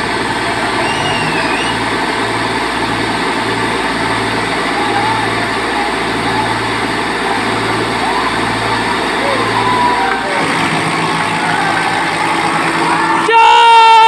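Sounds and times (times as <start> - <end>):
tractor diesel engines under load: 0.0 - 13.9.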